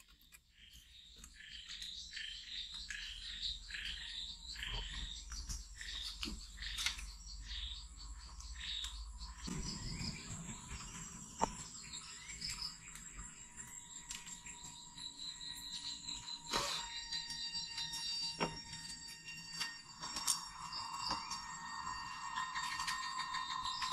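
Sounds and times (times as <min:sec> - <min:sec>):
high insect drone: 0:01.4 - 0:23.9.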